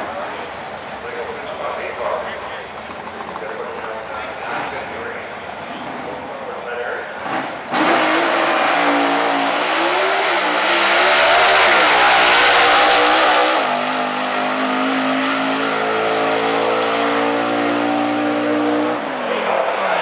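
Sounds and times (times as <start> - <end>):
drag car engine accelerating: 0.0 - 20.0.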